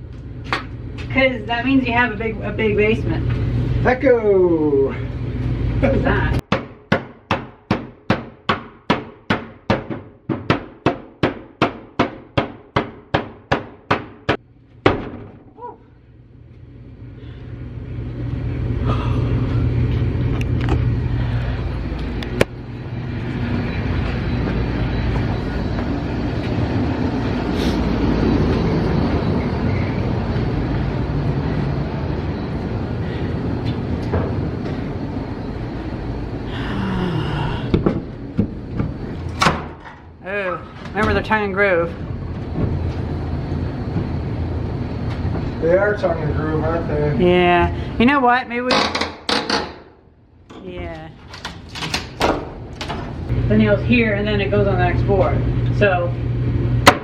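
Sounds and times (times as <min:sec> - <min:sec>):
steady noise with low hum: 0:00.0 - 0:06.5, 0:14.3 - 0:48.7, 0:49.8 - 0:57.0.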